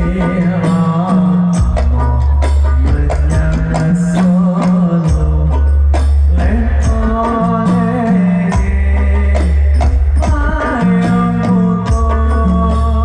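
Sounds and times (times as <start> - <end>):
deep sustained bass: 0.0 - 13.0
drum beats: 0.0 - 13.0
man singing into a microphone: 0.0 - 13.0.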